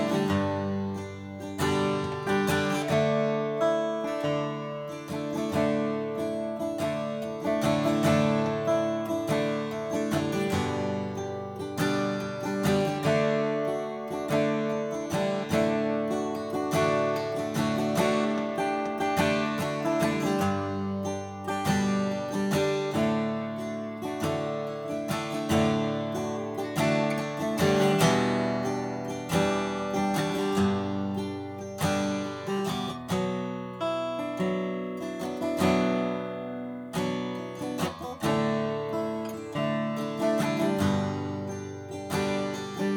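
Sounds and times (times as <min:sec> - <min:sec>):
acoustic guitar strumming and picking: 0:00.0 - 0:42.9.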